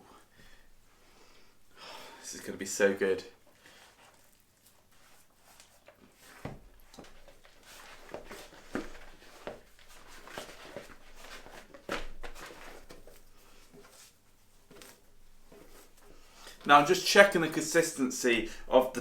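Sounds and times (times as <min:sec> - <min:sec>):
hands mixing dough: 0:01.6 - 0:19.0.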